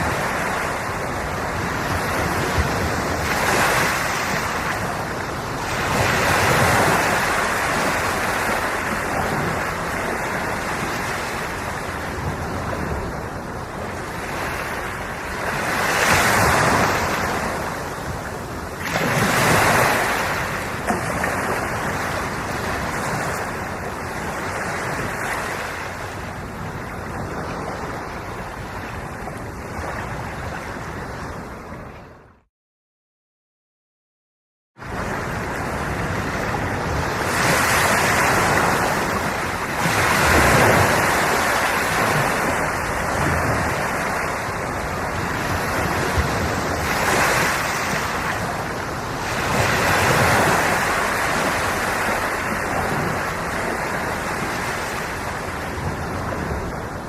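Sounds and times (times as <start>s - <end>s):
sea waves breaking on shore: 0.0s - 32.3s, 34.8s - 57.0s.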